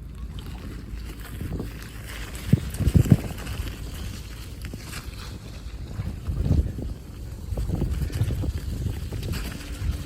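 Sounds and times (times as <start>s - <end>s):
bicycle road rumble: 0.0s - 10.0s
wind noise on microphone: 0.0s - 10.0s.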